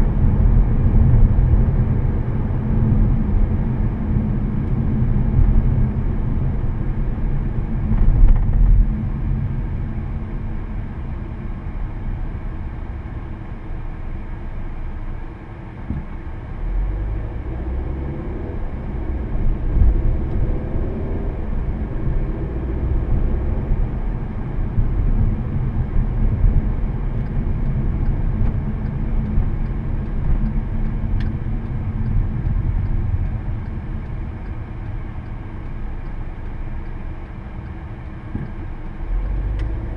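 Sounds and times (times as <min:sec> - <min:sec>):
car engine: 0:00.0 - 0:39.9
road and tyre rumble: 0:00.0 - 0:39.9.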